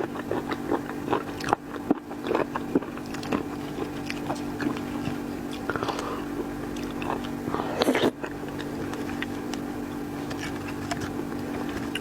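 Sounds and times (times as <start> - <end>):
low hum: 0.0 - 12.0
person chewing with wet smacks: 0.0 - 12.0.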